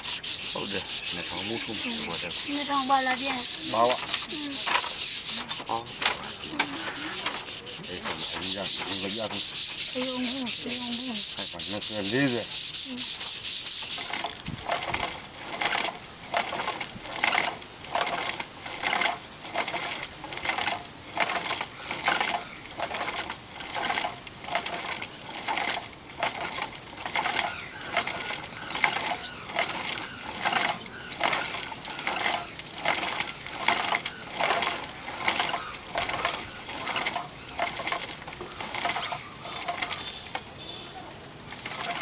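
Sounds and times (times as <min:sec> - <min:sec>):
rhythmic sanding swish: 0:00.0 - 0:40.3.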